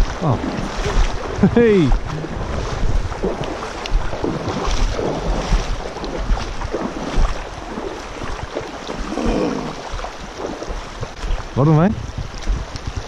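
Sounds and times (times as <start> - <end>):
river water rushing over stones: 0.0 - 13.0
wind buffeting microphone: 0.0 - 13.0.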